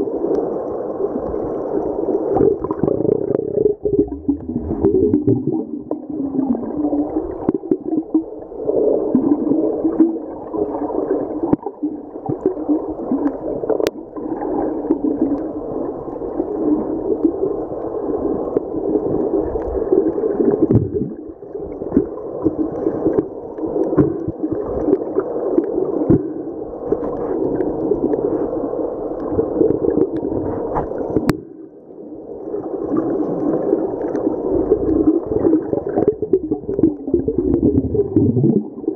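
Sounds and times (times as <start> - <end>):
underwater water gurgling: 0.0 - 38.9.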